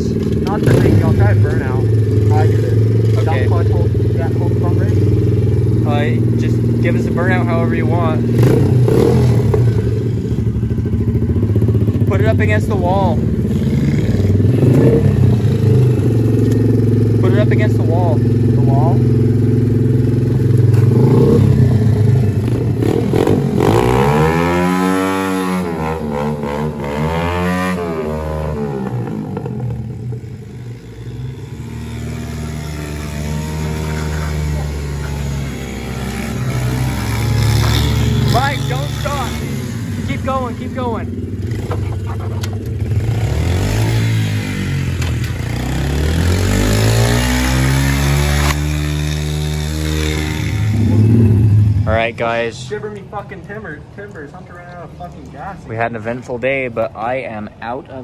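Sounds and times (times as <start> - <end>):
pit bike engine revving: 0.0 - 57.8.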